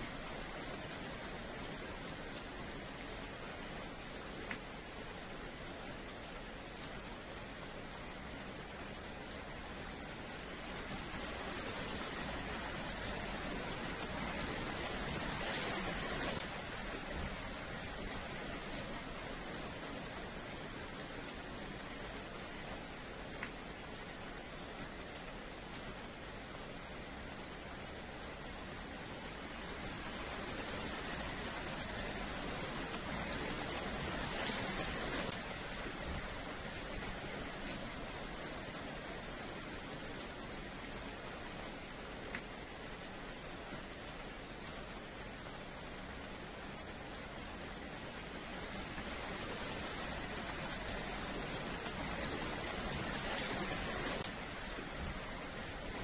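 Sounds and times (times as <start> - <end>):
rain on pavement: 0.0 - 56.0.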